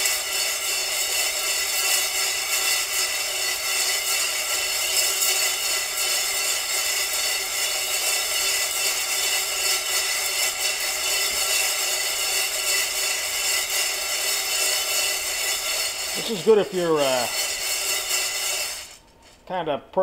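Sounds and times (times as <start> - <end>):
coffee beans rattling in metal pan: 0.0 - 19.1.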